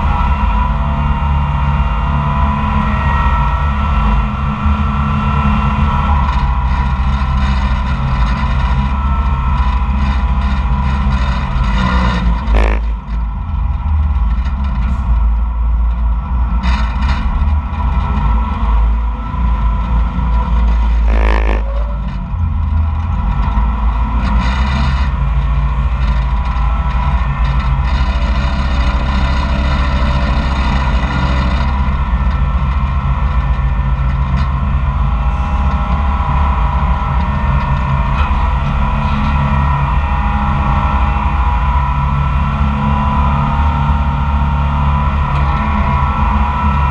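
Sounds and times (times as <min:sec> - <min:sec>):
dragline engine running: 0:00.0 - 0:46.9
machinery rattling clatter: 0:00.0 - 0:46.9.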